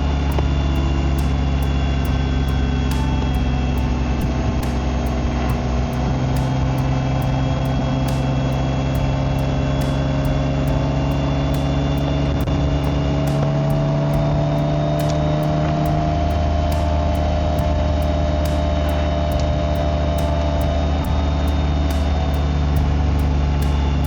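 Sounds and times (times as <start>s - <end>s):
motorcycle engine and exhaust: 0.0s - 24.0s.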